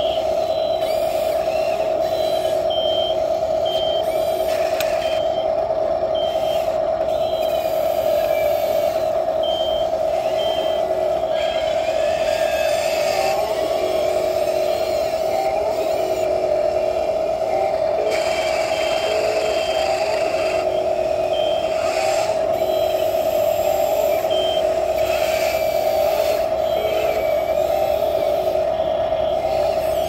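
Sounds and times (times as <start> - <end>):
toy vehicle motor whine: 0.0 - 5.6, 6.2 - 30.0.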